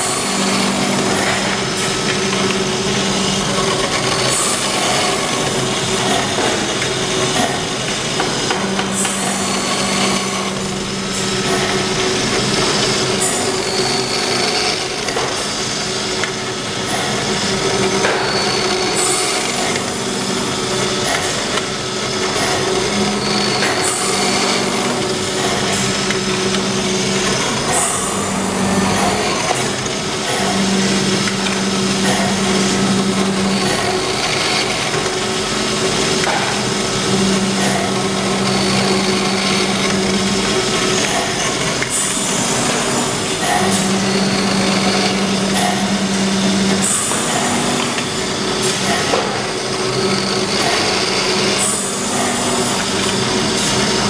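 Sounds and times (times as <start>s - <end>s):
drill press hum: 0.0s - 54.0s
high-pitched metal cutting noise: 0.0s - 54.0s.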